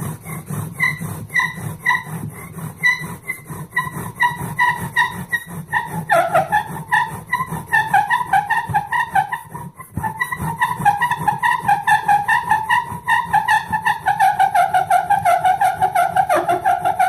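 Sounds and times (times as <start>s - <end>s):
bow drill spindle squeaking: 0.0s - 17.0s
low rubbing: 0.0s - 17.0s.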